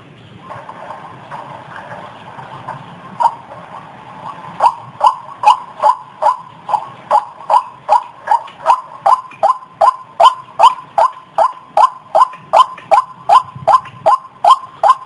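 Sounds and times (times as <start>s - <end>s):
waterhen harsh calls: 0.4s - 15.0s.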